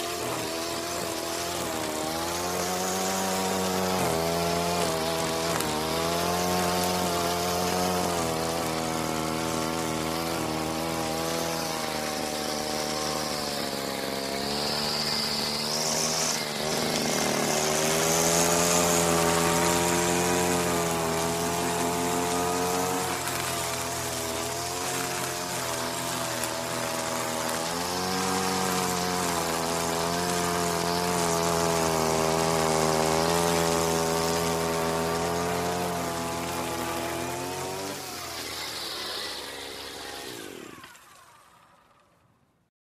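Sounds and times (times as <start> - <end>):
grass cutter engine running: 0.0 - 42.2.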